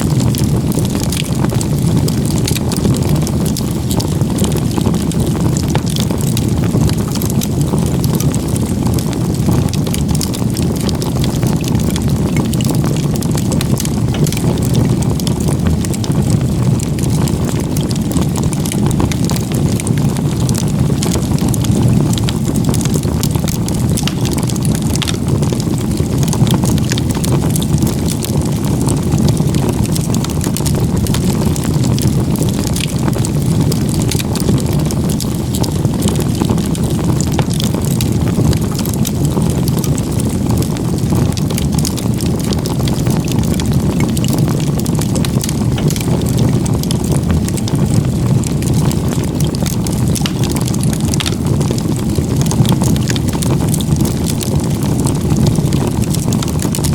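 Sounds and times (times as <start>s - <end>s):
campfire flames rushing: 0.0s - 56.9s
firewood crackling and popping: 0.0s - 56.9s.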